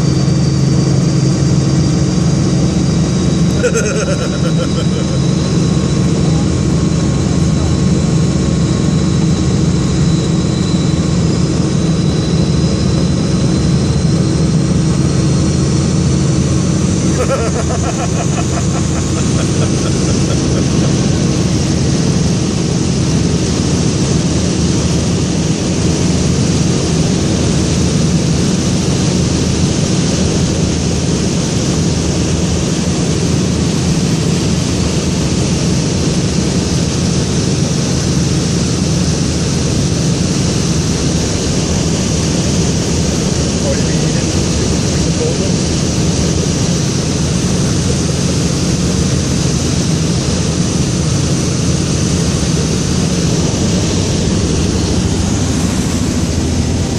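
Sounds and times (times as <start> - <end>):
helicopter rotor and engine drone: 0.0 - 56.9
high whine: 0.0 - 56.9.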